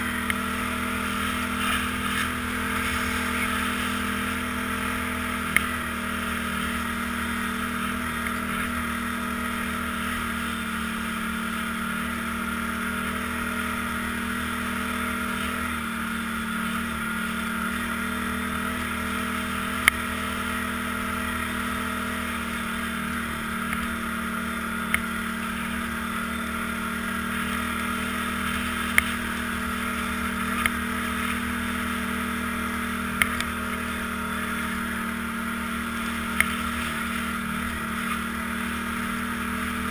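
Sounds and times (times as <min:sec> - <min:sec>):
atv engine droning: 0:00.0 - 0:39.9.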